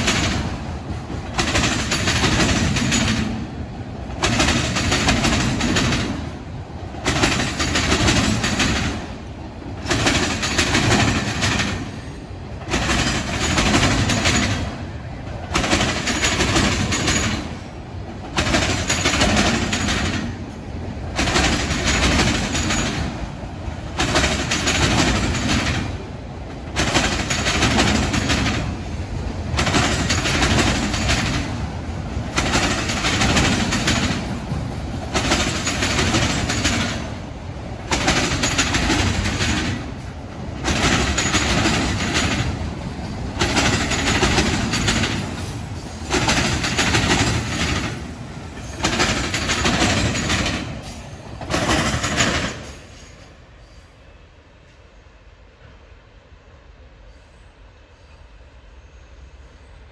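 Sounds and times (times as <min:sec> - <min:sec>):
freight train wheels clattering: 0:00.0 - 0:53.4.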